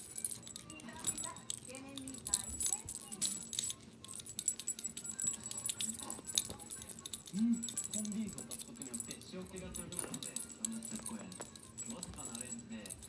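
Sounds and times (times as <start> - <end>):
cat toy rattling and jangling: 0.0 - 13.0.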